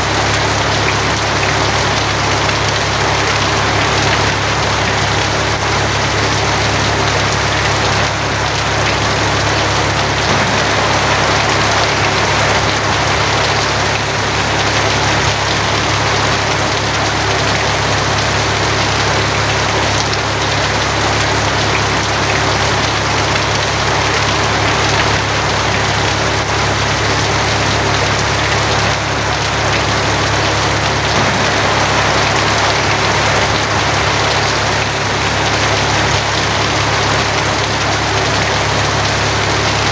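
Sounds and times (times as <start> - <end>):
rain drumming on a tin roof: 0.0 - 39.9.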